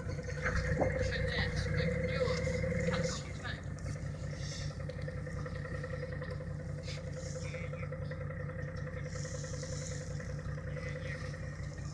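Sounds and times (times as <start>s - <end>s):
motorboat engine idling: 0.0s - 11.9s.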